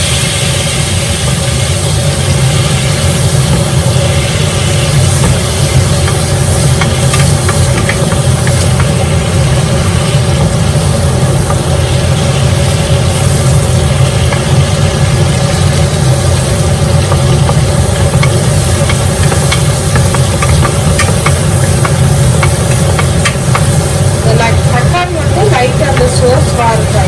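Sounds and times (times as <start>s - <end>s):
food sizzling in hot oil: 0.0s - 27.0s
loud low hum: 0.0s - 27.0s.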